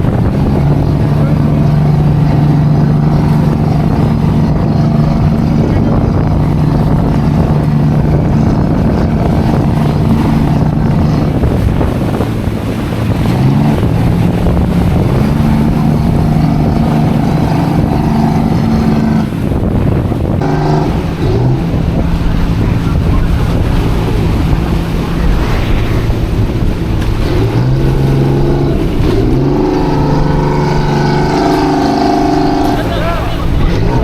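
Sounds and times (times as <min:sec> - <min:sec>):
boat engine running: 0:00.0 - 0:34.0
wind buffeting microphone: 0:00.0 - 0:34.0.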